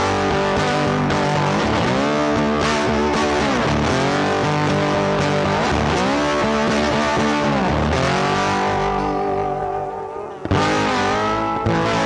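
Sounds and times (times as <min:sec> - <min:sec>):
electric guitar with pitch bends: 0:00.0 - 0:12.0.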